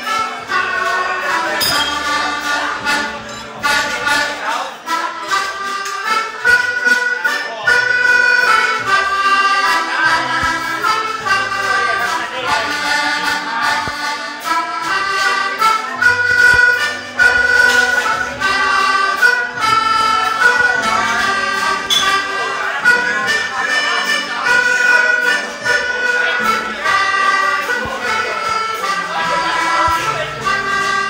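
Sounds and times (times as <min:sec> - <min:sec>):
waltz on accordion-like keyboard: 0:00.0 - 0:31.0.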